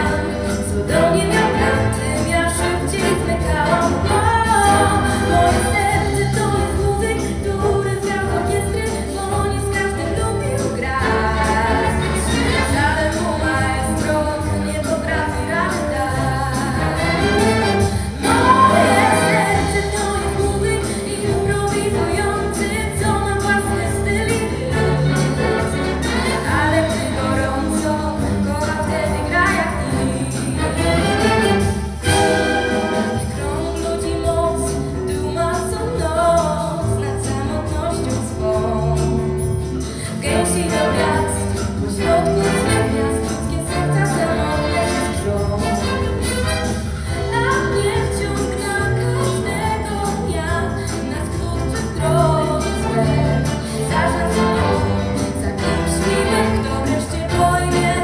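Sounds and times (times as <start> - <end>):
wind orchestra playing pop song: 0.0 - 58.0
woman singing: 0.0 - 58.0.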